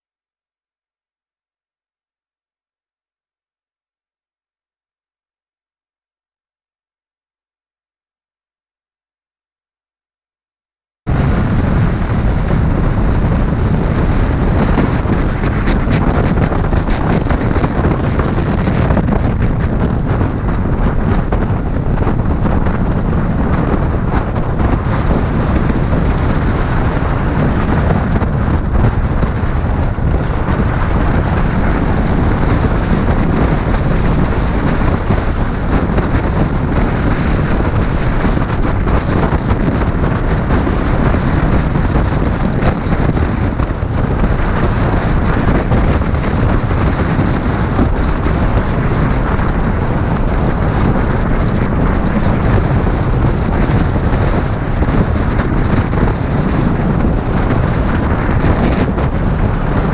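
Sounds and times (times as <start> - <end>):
wind buffeting microphone: 11.1 - 59.9.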